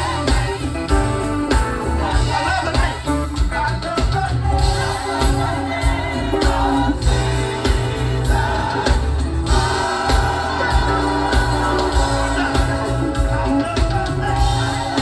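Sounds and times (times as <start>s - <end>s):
band playing gospel music: 0.0s - 15.0s
voices singing together: 0.0s - 15.0s.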